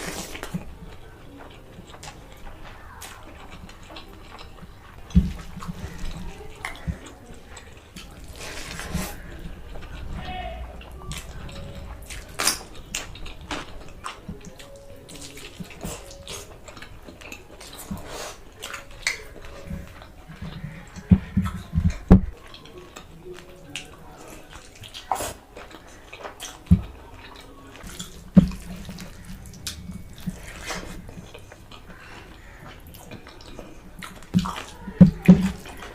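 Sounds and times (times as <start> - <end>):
wet chewing and slurping: 0.0 - 35.9.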